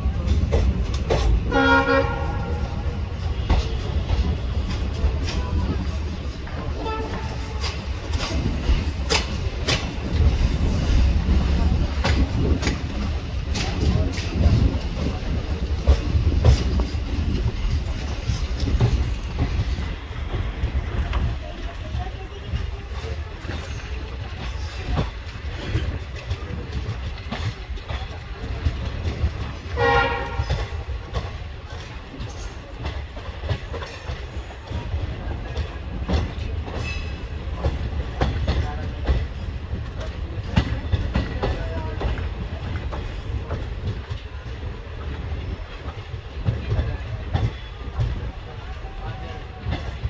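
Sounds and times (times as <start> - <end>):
train wheels rumbling on rail: 0.0 - 50.0
wheels clacking over rail joints: 0.0 - 50.0.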